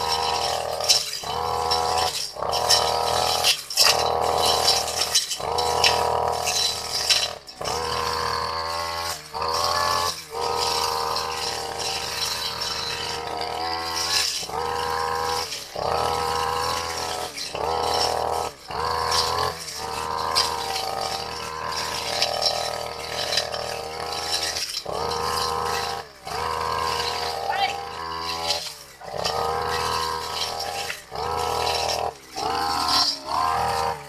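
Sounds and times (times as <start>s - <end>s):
blade cutting long grass: 0.0s - 34.0s
brush cutter engine running: 0.0s - 34.0s.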